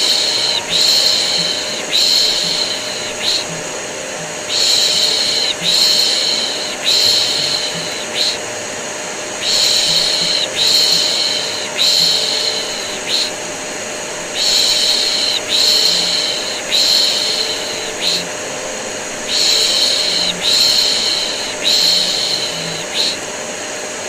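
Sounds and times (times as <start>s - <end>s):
person shushing: 0.0s - 8.4s, 9.4s - 23.3s
vacuum cleaner running: 0.0s - 24.0s.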